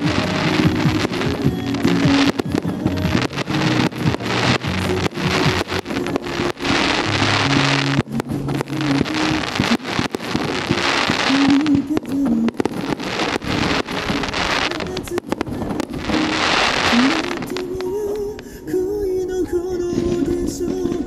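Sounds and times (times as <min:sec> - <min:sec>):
fireworks bangs and crackling: 0:00.0 - 0:18.4, 0:19.8 - 0:21.0
melodic music: 0:00.0 - 0:21.0.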